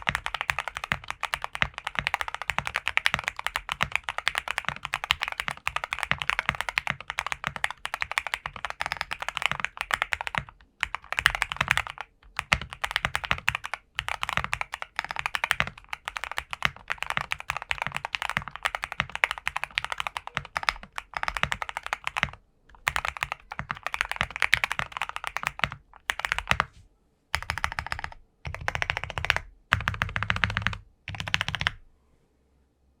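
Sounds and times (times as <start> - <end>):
mechanical keyboard typing: 0.0 - 26.7, 27.4 - 31.8.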